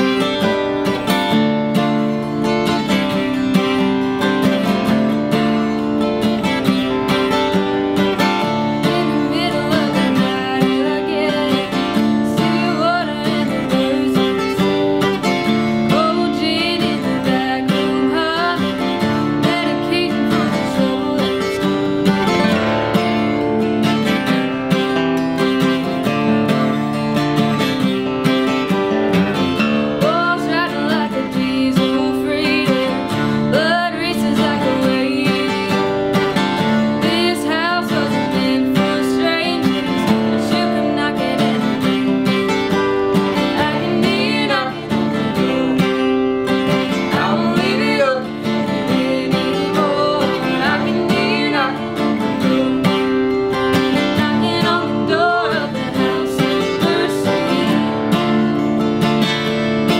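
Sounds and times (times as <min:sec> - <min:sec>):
acoustic guitars strummed: 0:00.0 - 0:59.9
woman singing: 0:02.6 - 0:24.8, 0:29.6 - 0:58.8.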